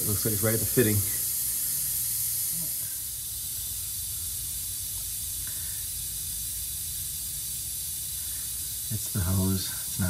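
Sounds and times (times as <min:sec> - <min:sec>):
compressed air hissing: 0:00.0 - 0:10.0.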